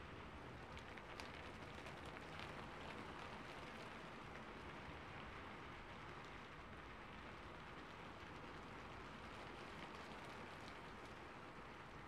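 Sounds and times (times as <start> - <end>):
soft steady rainfall: 0.0 - 12.0.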